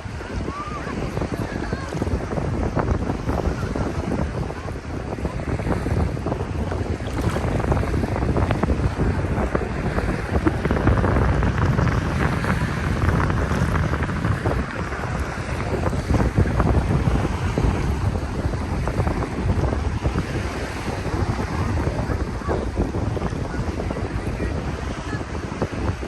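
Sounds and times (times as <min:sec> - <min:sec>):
water washing: 0:00.0 - 0:26.0
wind buffeting microphone: 0:00.0 - 0:26.0.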